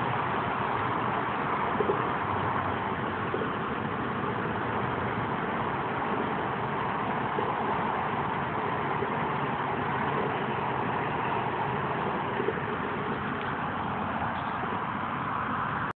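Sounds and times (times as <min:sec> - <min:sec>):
road traffic rumble and hiss: 0:00.0 - 0:15.9.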